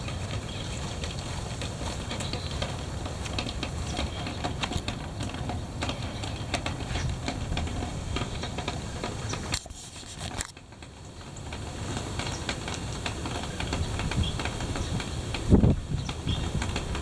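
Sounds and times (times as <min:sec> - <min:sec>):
heavy wind buffeting microphone: 0:00.0 - 0:17.0
irregular ticks and taps: 0:00.0 - 0:17.0.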